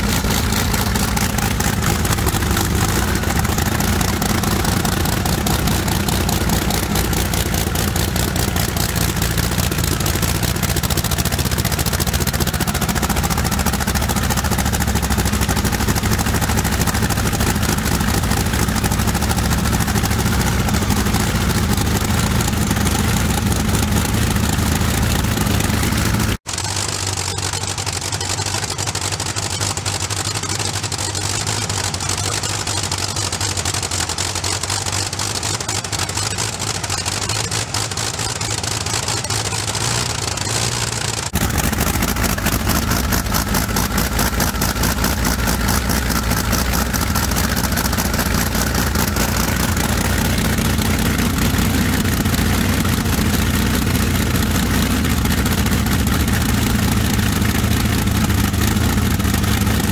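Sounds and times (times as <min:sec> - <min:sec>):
aero engine running: 0:00.0 - 0:59.9.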